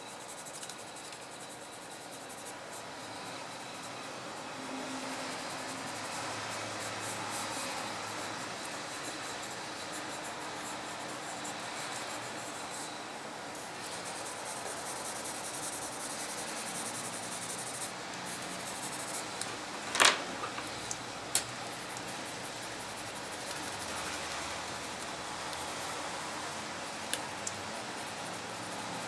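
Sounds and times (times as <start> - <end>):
pencils scratching on paper: 0.0 - 19.8, 20.6 - 29.0
steady hiss: 0.0 - 29.0.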